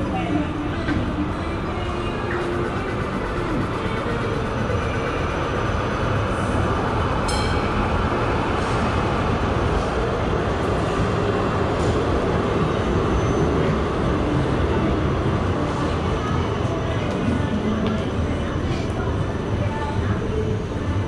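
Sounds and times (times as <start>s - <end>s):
tram rumbling along street: 0.0s - 21.0s.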